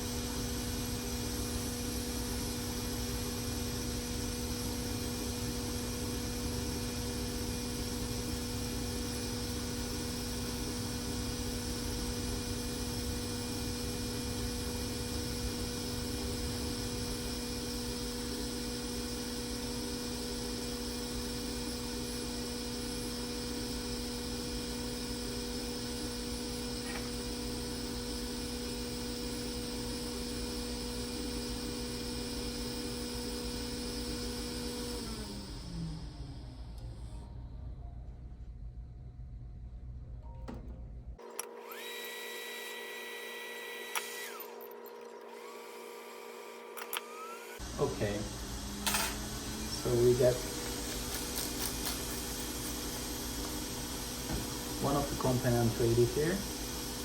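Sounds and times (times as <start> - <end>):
electrical hum: 0.0 - 57.0.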